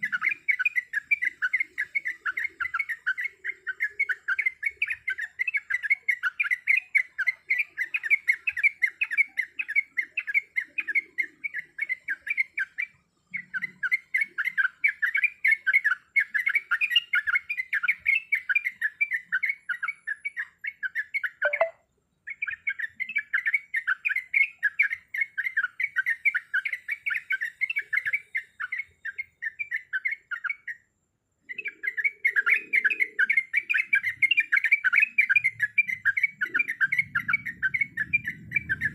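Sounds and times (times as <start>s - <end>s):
bird chattering chirps: 0.0s - 30.8s, 31.4s - 38.9s.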